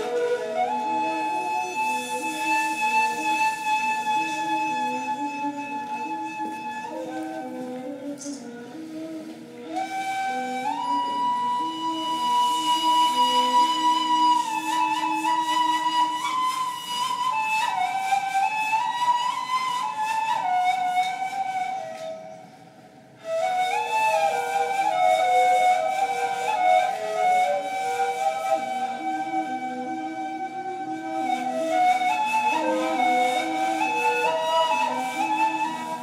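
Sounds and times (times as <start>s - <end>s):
cane flutes playing: 0.0s - 36.0s.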